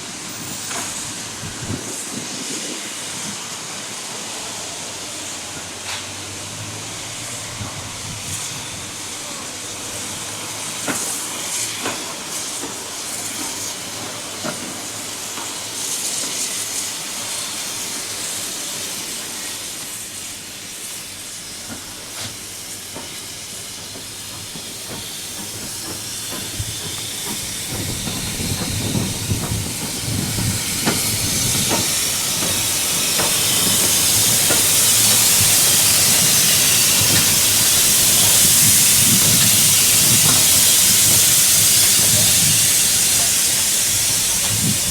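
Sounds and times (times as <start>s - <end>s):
steam locomotive hissing: 0.0s - 44.9s.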